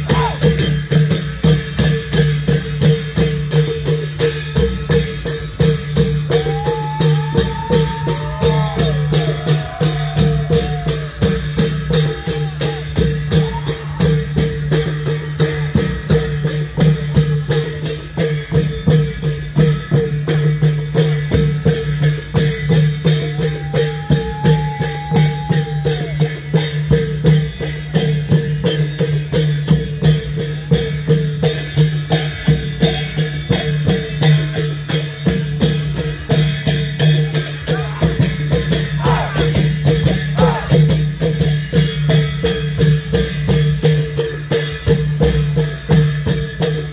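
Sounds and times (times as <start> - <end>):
long drums fast beat: 0.0 - 46.9.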